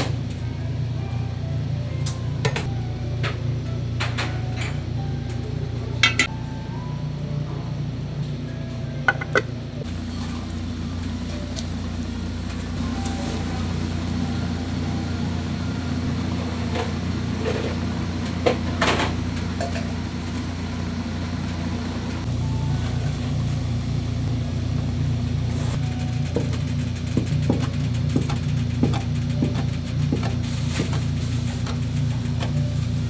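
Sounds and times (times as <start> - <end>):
kitchen machinery hum: 0.0 - 33.0.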